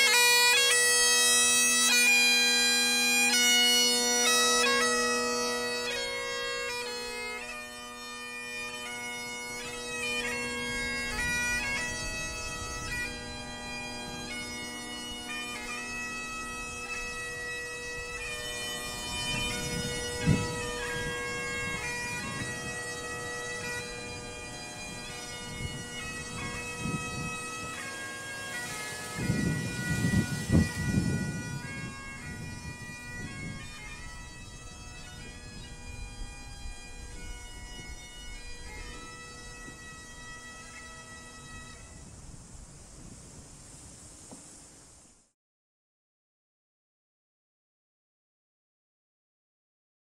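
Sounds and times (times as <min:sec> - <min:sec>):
bagpipes playing slow melody: 0:00.0 - 0:42.6.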